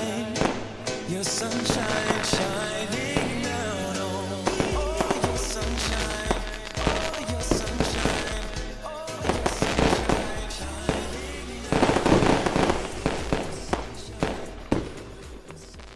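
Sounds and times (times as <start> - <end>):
background music: 0.0 - 15.9
fireworks bursting and crackling: 0.0 - 15.9.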